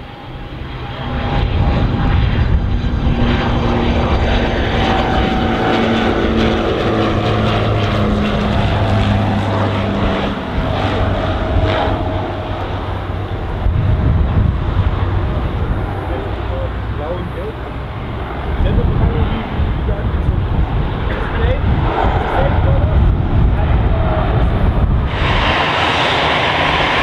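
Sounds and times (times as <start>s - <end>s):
propeller plane droning: 0.0s - 27.0s.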